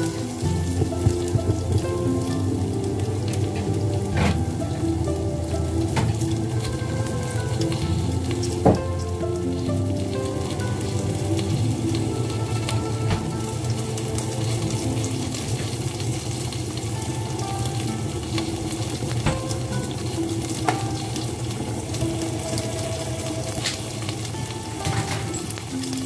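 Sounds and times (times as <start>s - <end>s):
vegetables sizzling in a pot: 0.0s - 26.0s.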